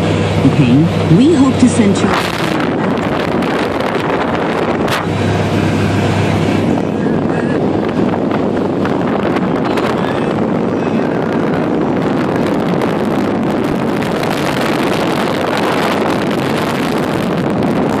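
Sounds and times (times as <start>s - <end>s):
motorboat engine running: 0.0s - 18.0s
water noise: 0.0s - 18.0s
wind buffeting microphone: 0.0s - 18.0s.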